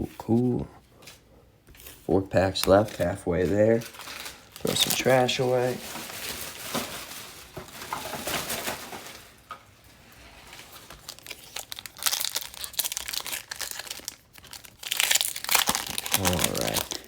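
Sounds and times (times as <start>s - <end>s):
plastic wrappers crinkling: 1.0s - 17.0s.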